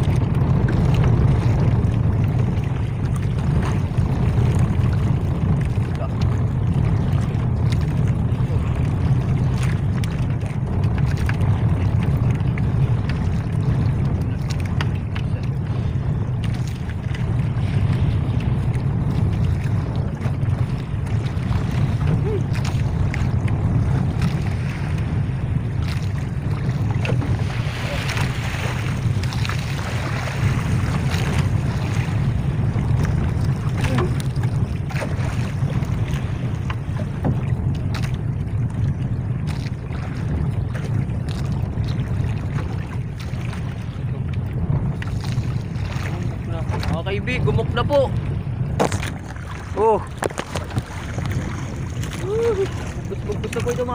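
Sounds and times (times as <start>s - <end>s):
water washing around boat: 0.0s - 53.9s
wind rumble on microphone: 0.0s - 53.9s.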